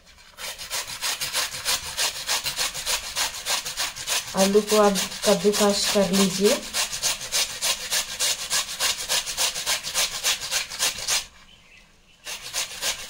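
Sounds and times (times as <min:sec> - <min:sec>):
potato rasping on a grater: 0:00.0 - 0:11.3, 0:12.2 - 0:13.0.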